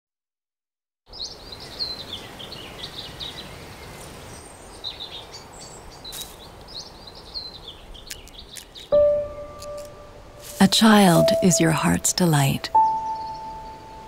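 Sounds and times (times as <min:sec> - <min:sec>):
outdoor background hiss: 0:01.1 - 0:14.0
songbirds chirping and singing: 0:01.1 - 0:14.0.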